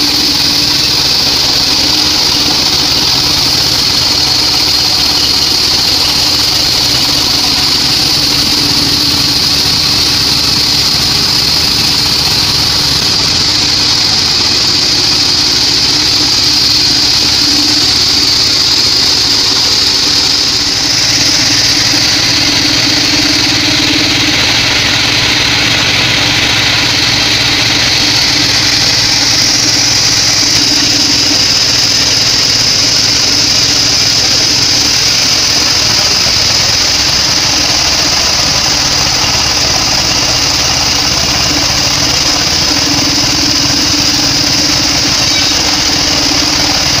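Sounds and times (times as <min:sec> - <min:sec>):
bandsaw sawing timber: 0:00.0 - 0:47.0.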